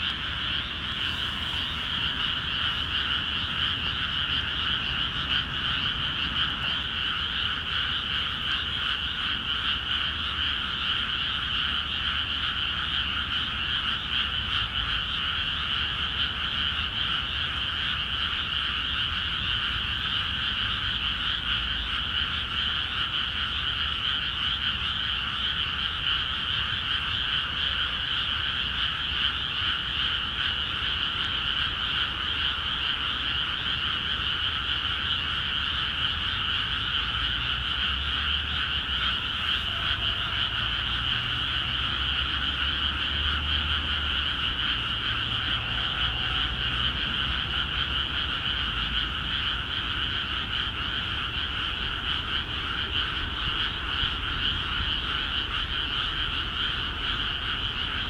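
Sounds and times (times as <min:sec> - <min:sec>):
chorus of frogs calling: 0:00.0 - 0:58.0.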